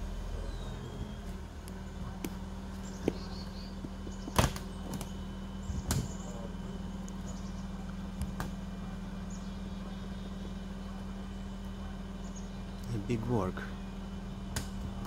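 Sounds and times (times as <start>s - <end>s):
heavy machine engine drone: 0.0s - 15.0s.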